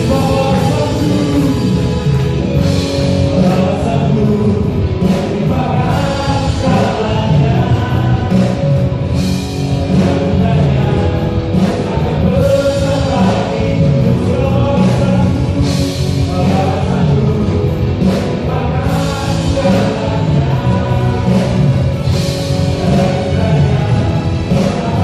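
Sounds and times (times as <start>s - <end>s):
electric guitars: 0.0s - 25.0s
keyboards: 0.0s - 25.0s
singers leading a song: 0.0s - 25.0s.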